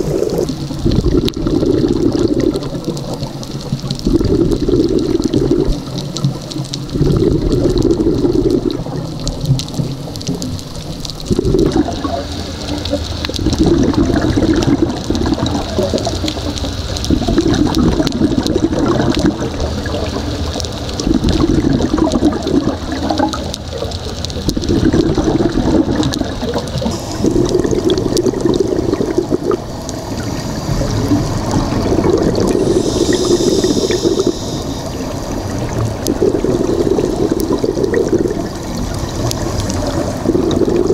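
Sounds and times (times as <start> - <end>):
scuba regulator bubbles gurgling: 0.0 - 40.9.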